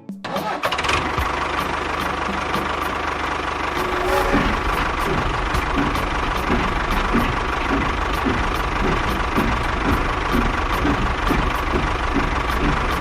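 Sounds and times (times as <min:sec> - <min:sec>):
small tractor engine knocking: 0:00.7 - 0:03.7, 0:05.0 - 0:13.0.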